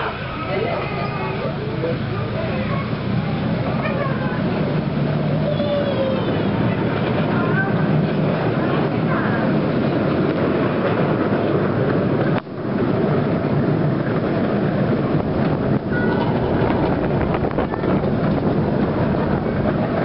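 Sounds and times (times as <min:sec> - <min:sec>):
small wheels rumbling on rails: 0:00.0 - 0:20.0
wind on microphone: 0:02.7 - 0:20.0.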